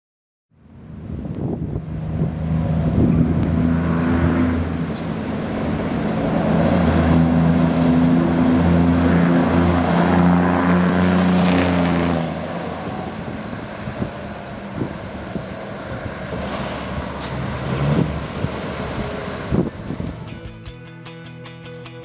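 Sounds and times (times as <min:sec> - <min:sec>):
truck diesel engine passing by: 0:00.7 - 0:20.8.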